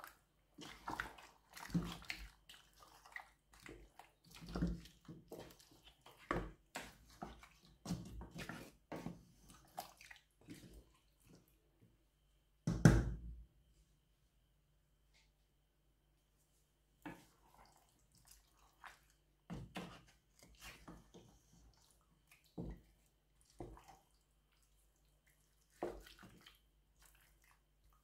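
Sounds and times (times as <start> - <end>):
spatula stirring thick stew: 0.0 - 11.6, 17.0 - 28.0.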